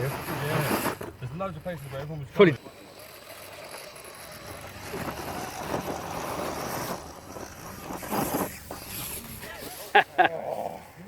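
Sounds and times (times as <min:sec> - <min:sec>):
rc car electric motor: 0:00.0 - 0:10.0.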